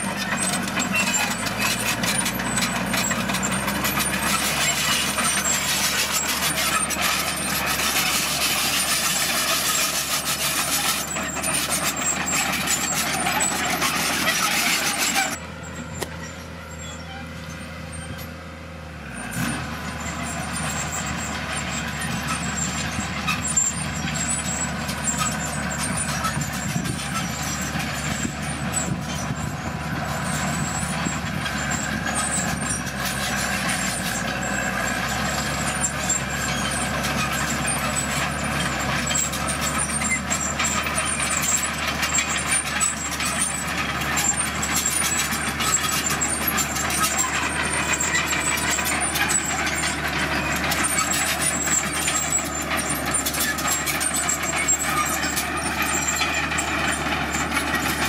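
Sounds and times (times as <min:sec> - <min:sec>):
steel tracks rattling: 0:00.0 - 0:16.5, 0:19.3 - 0:58.0
bulldozer diesel engine: 0:00.0 - 0:58.0.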